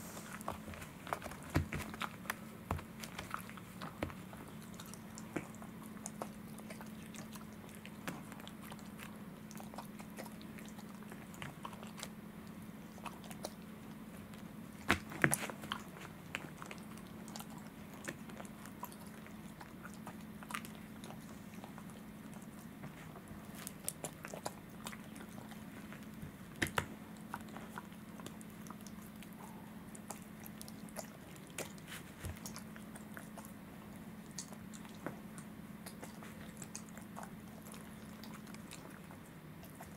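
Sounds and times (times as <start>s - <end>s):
dog chewing rawhide: 0.0s - 39.9s.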